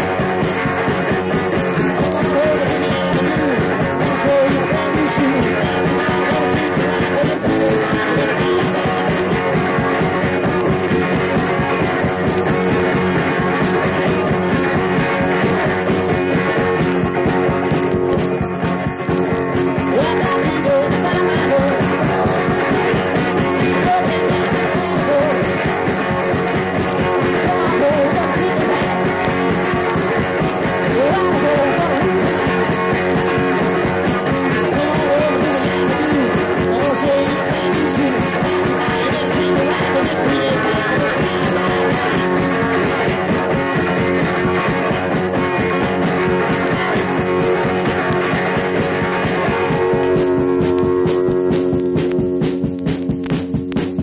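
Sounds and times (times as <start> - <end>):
rock song with electric guitar: 0.0 - 54.0.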